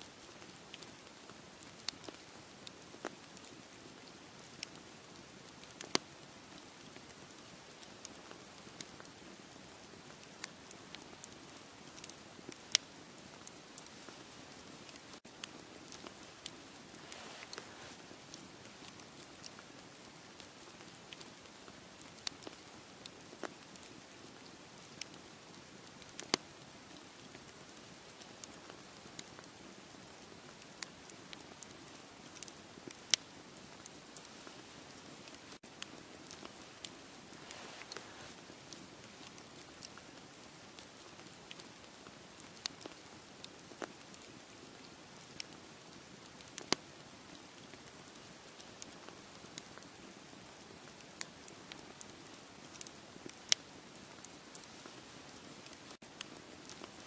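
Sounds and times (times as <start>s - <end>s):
campfire crackling and popping: 0.1s - 57.0s.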